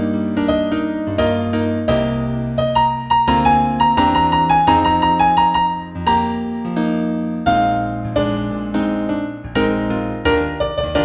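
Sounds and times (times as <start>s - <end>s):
new age keyboard music: 0.0s - 11.0s.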